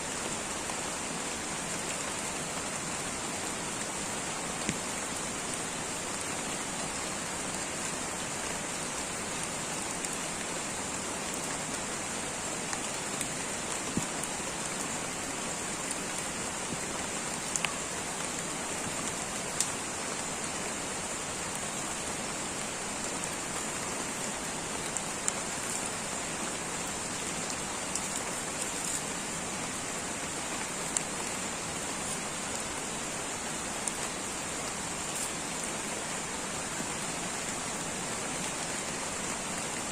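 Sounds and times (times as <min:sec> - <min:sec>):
light rain falling: 0:00.0 - 0:39.9
raindrops ticking on surfaces: 0:00.1 - 0:39.9.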